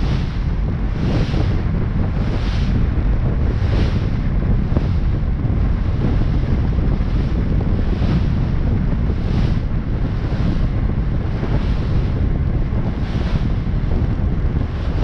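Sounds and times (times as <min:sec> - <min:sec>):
water rushing past hull: 0:00.0 - 0:15.0
wind buffeting microphone: 0:00.0 - 0:15.0.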